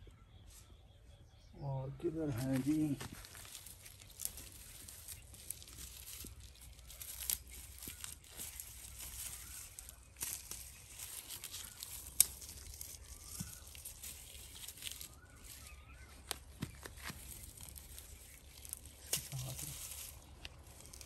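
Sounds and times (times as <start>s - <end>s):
plants rustling and crackling: 1.9s - 21.0s
stems snapping: 2.4s - 21.0s.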